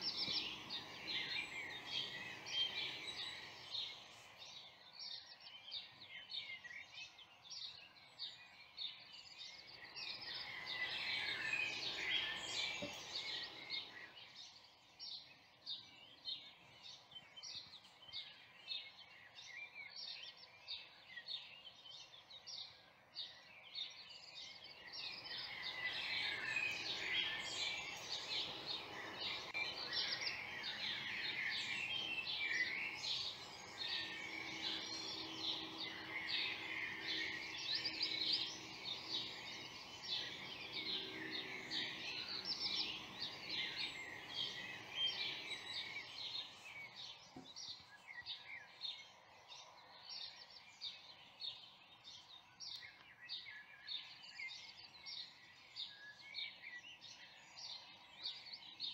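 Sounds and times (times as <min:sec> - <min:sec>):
songbirds chirping and singing: 0:00.0 - 0:58.9.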